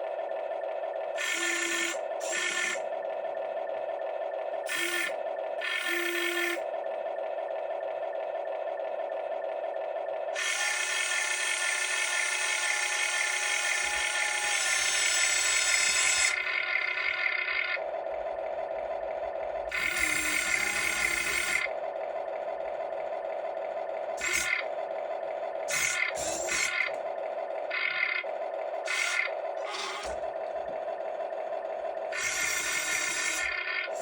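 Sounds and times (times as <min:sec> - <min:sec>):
electric motors whirring: 0:00.0 - 0:22.6, 0:23.2 - 0:34.0
steady hum: 0:00.0 - 0:34.0.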